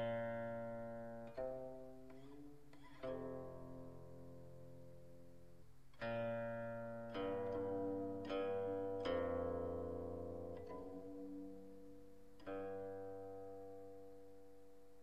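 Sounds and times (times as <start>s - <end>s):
slow plucked string notes: 0.0s - 15.0s.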